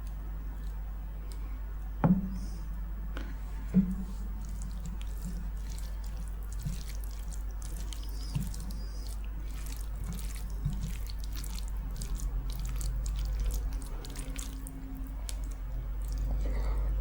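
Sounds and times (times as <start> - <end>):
wet chewing and mouth smacks: 0.0 - 1.9, 4.0 - 17.0.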